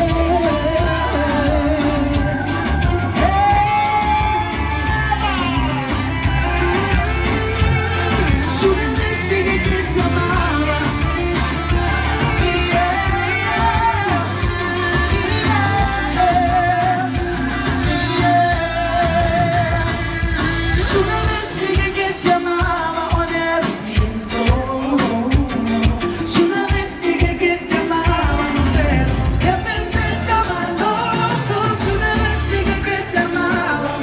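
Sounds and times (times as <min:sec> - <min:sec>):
electric guitar: 0:00.0 - 0:34.0
heavy bass beat: 0:00.0 - 0:34.0
man singing into microphone: 0:00.0 - 0:34.0.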